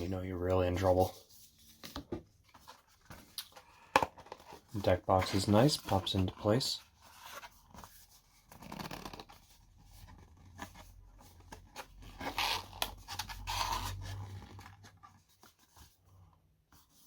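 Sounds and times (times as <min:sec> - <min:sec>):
packaging rustling and scraping: 0:00.7 - 0:16.2.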